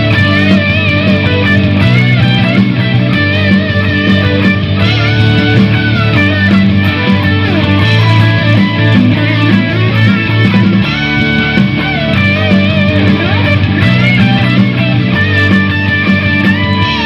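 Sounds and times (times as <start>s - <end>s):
bass and drum backing: 0.0s - 17.0s
electric guitar lead: 0.0s - 17.0s.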